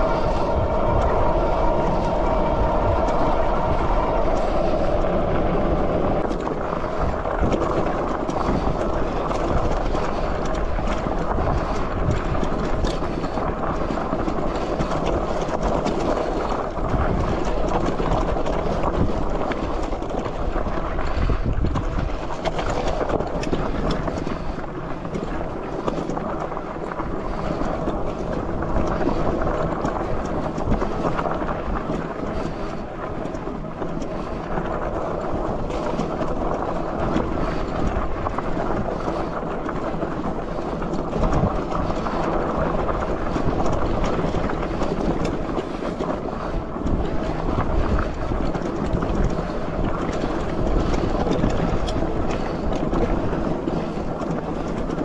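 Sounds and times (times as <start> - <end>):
bike rattling over stony trail: 0.0 - 55.0
wind buffeting microphone: 0.0 - 55.0.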